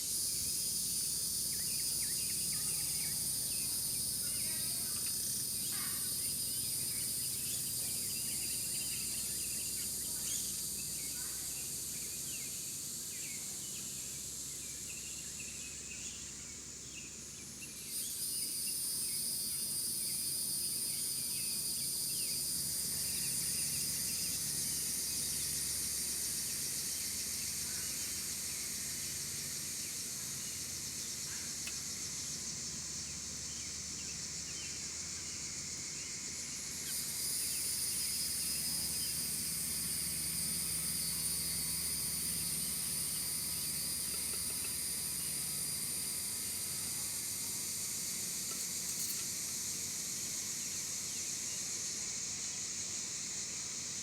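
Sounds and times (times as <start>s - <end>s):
crickets buzzing and trilling: 0.0s - 54.0s.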